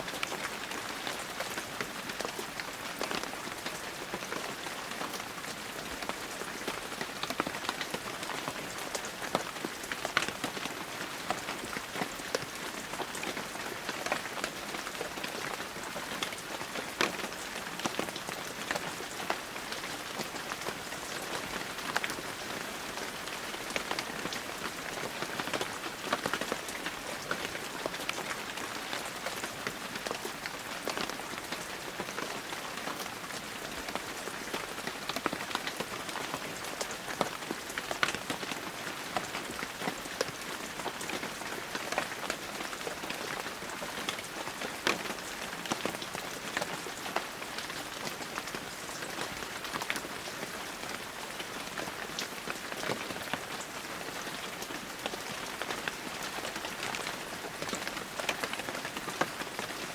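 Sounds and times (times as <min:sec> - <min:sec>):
raindrops pattering on surfaces: 0:00.0 - 0:59.9
heavy rain falling: 0:00.1 - 0:59.9.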